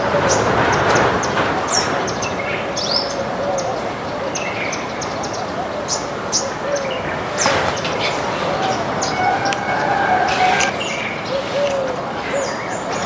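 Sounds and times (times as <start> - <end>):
small birds chirping: 0.0 - 13.0
lower arching bird calls: 2.3 - 13.0.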